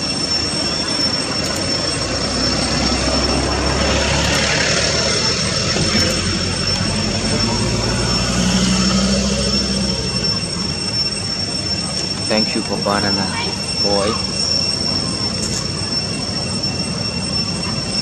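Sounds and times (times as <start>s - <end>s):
constant high-pitched tone: 0.0s - 18.0s.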